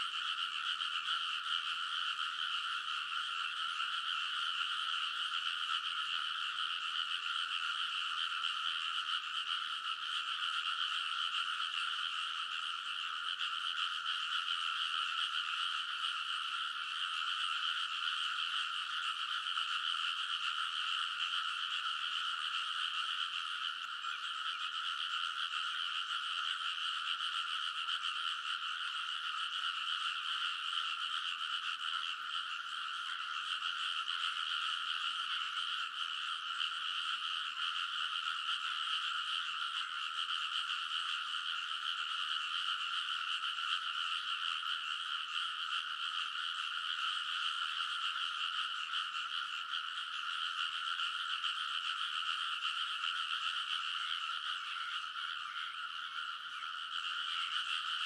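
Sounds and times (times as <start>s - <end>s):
frog chorus croaking: 0.0s - 58.0s.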